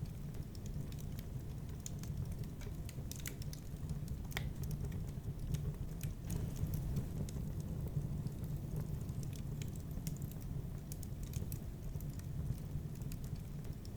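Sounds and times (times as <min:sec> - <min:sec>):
fire crackling and popping: 0:00.0 - 0:13.9.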